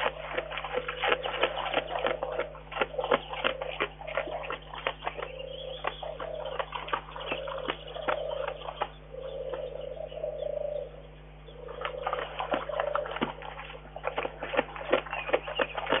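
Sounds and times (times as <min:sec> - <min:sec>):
bear chewing crunchy food: 0:00.0 - 0:09.7, 0:11.6 - 0:16.0
low wavering hum: 0:00.0 - 0:16.0.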